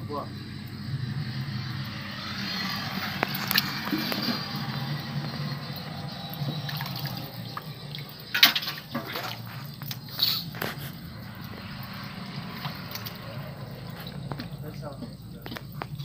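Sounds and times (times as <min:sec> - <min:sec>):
low steady hum: 0:00.0 - 0:16.0
water splashing and dripping: 0:00.6 - 0:16.0.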